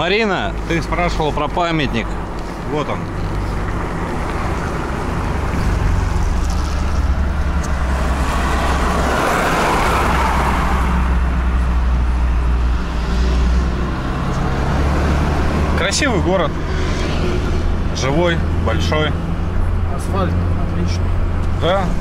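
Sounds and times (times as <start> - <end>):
passing traffic: 0.0 - 22.0
road noise: 0.0 - 22.0
truck engine running: 0.0 - 22.0.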